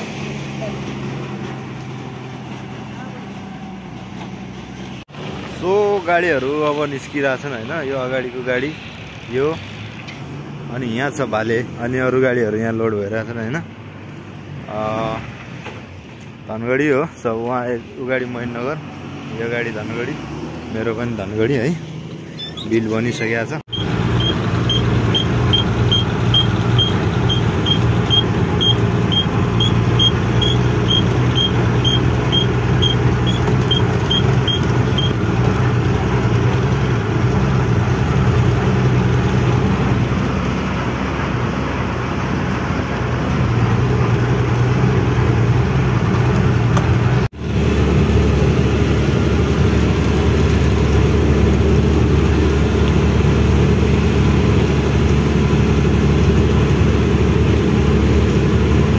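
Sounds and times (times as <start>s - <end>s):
truck engine hum: 0.0s - 58.9s.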